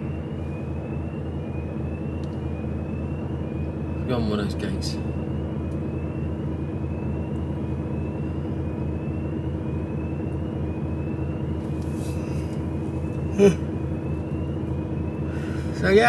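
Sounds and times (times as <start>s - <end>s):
diesel engine running in cab: 0.0s - 16.0s.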